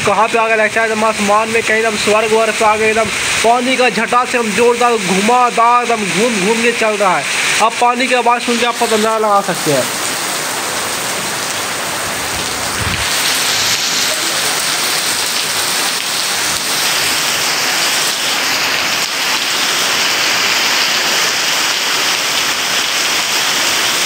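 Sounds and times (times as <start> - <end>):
heavy rain on roofs and ground: 0.0 - 24.0.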